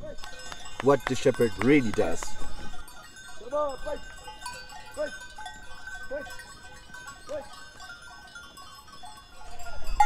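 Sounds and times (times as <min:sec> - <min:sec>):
steady ringing tones: 0:00.2 - 0:10.0.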